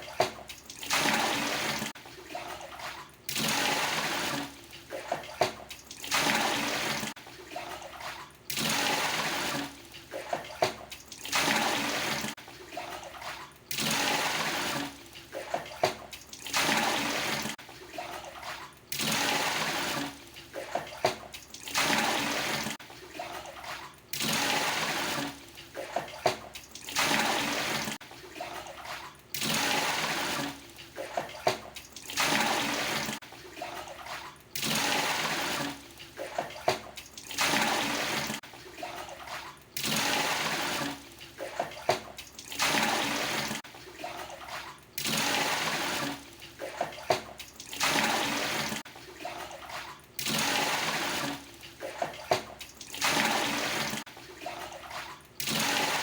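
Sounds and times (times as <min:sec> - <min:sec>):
small water splashes: 0:00.0 - 0:56.0
water pouring from a dipper: 0:00.0 - 0:56.0.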